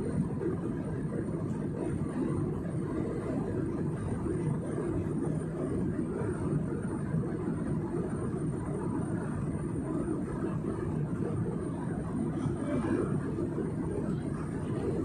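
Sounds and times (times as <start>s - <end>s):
jet cabin engine drone: 0.0s - 15.0s.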